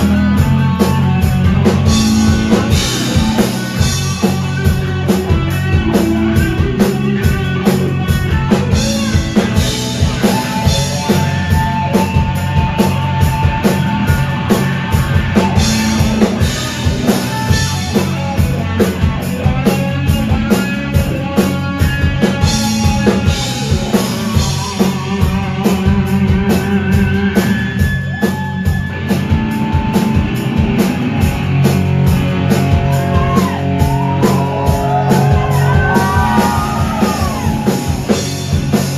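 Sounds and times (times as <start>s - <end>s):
drum kit beat: 0.0s - 38.9s
electric guitar: 0.0s - 38.9s.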